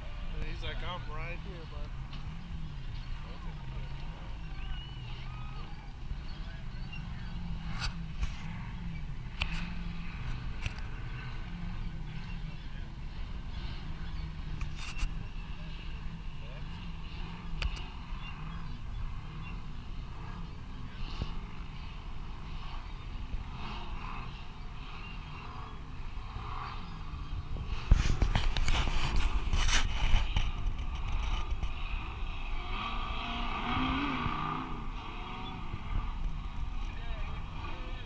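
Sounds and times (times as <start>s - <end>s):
distant engines revving: 0.0s - 38.0s
rough loud noise: 0.0s - 38.0s.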